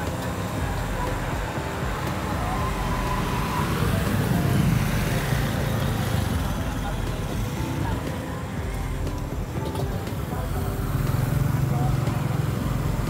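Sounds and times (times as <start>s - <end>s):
faint voices: 0.0s - 13.0s
low rumble of traffic: 0.0s - 13.0s.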